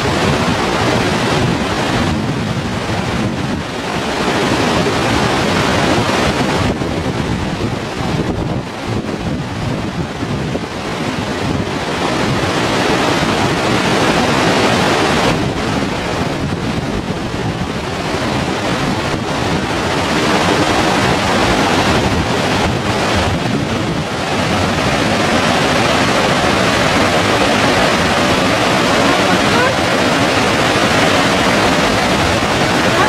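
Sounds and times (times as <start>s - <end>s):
waterfall rushing onto boulders: 0.0s - 33.0s
wind buffeting microphone: 0.0s - 33.0s.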